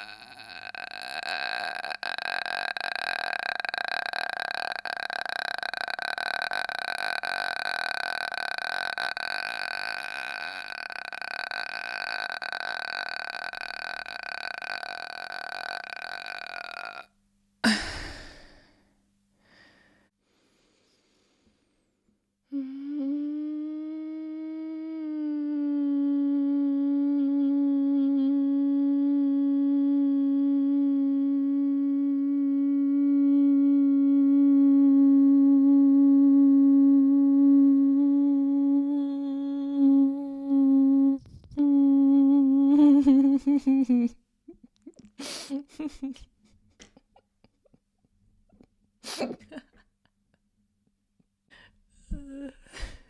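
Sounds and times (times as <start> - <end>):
person humming: 0.0 - 18.8, 22.5 - 44.2, 44.8 - 47.0, 52.0 - 53.0.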